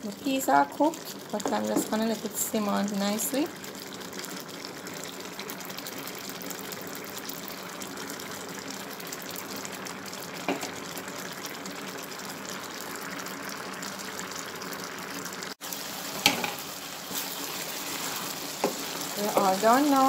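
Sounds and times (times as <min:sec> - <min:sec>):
beans simmering bubbling: 0:00.0 - 0:20.0.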